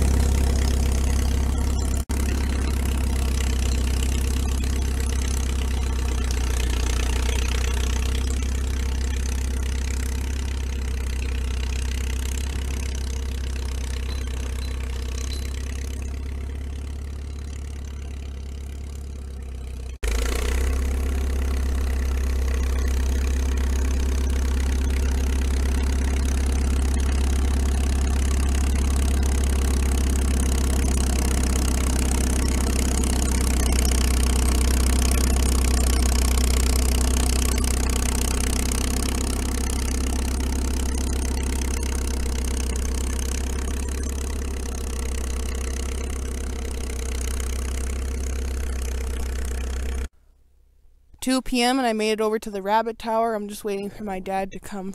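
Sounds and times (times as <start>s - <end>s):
crawler tractor engine running: 0.0s - 50.4s.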